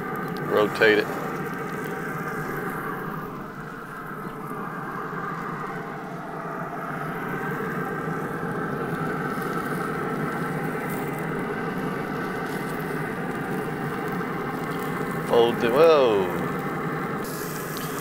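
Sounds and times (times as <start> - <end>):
grill fan and fire humming: 0.0 - 18.0.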